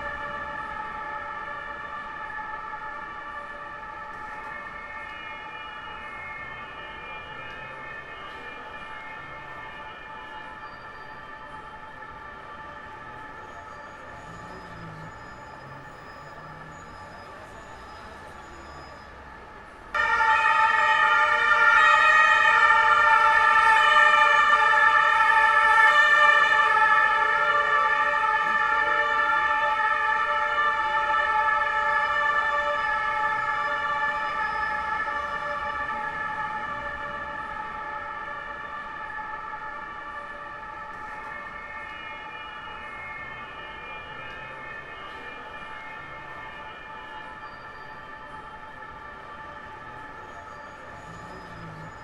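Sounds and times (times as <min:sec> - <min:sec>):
police siren: 0:00.0 - 0:52.0.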